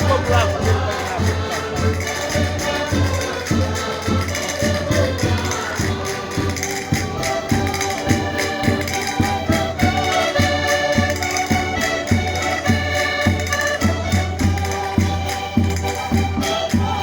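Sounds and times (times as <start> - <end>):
steady low drum beat: 0.0 - 16.4
concertinas playing folk tune: 0.0 - 17.0.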